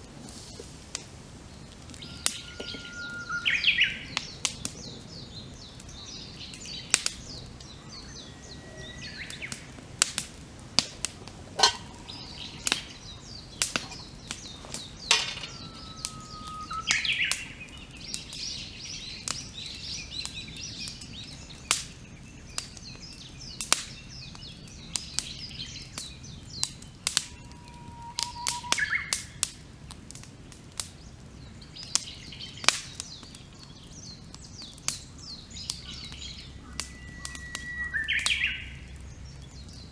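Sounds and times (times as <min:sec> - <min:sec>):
campfire crackling and popping: 0:00.0 - 0:39.9
birds singing and chirping: 0:01.5 - 0:29.5, 0:30.9 - 0:39.9.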